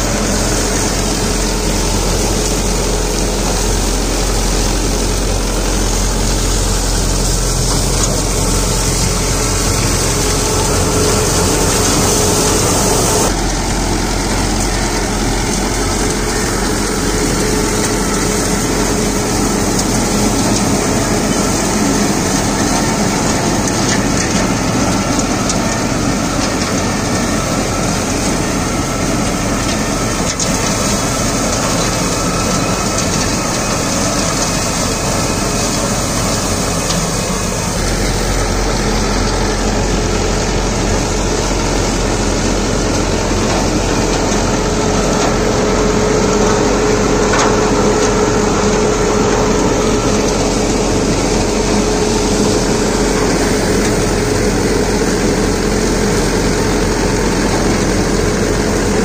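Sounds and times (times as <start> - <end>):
cutter shredding cane trash: 0.0 - 59.0
tractor diesel engine under load: 0.0 - 59.0.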